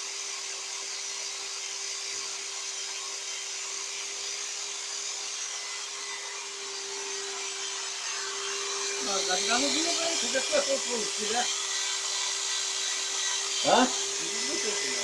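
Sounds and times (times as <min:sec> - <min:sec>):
electric drill sanding: 0:00.0 - 0:15.0.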